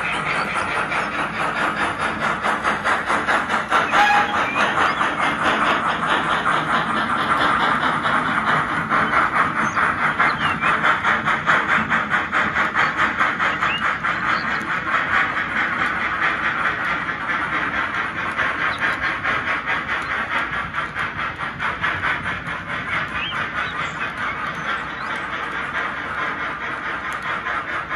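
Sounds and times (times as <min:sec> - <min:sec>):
model steam locomotive chuffing: 0:00.0 - 0:27.9.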